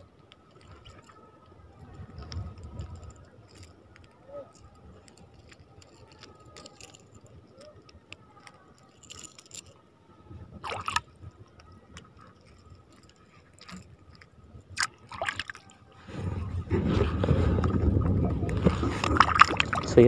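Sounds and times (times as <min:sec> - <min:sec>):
sea water sloshing and splashing: 0:00.0 - 0:20.0.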